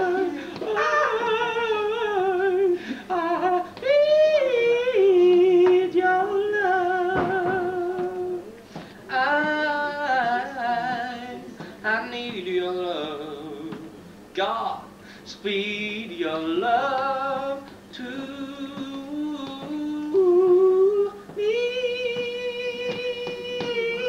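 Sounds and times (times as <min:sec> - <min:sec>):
man singing a slow ballad: 0:00.0 - 0:24.0.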